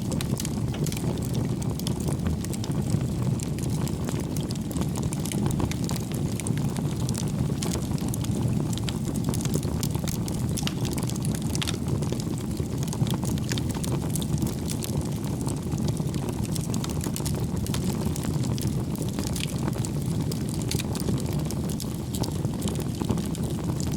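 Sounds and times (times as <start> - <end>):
burning wood crackling and popping: 0.0 - 23.9
fire flames rumbling: 0.0 - 23.9.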